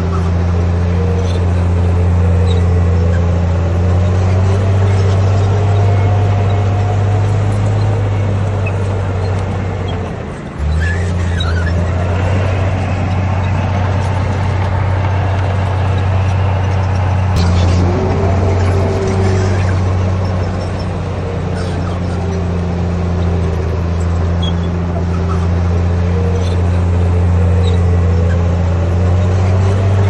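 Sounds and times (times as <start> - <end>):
bulldozer diesel engine droning: 0.0 - 30.0
engine whine: 0.0 - 30.0.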